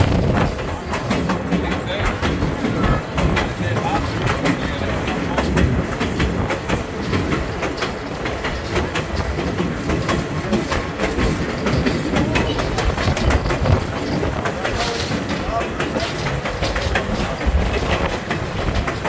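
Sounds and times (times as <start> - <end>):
clicks and knocks over rails: 0.0 - 19.0
train wheels rumbling: 0.0 - 19.0.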